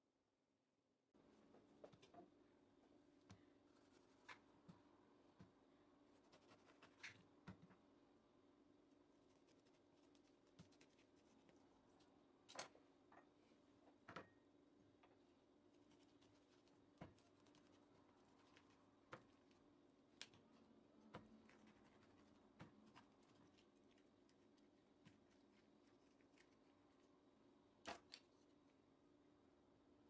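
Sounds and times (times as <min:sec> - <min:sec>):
faint steady hum: 0:01.2 - 0:30.0.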